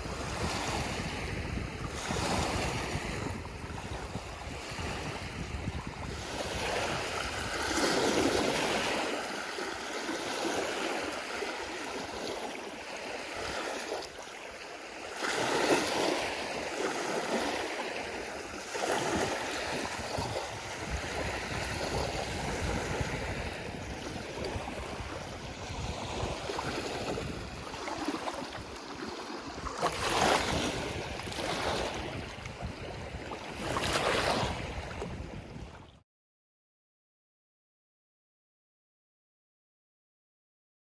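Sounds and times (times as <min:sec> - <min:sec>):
wind rumbling on microphone: 0:00.0 - 0:12.5, 0:15.4 - 0:36.0
waves washing onto shore: 0:00.0 - 0:35.8.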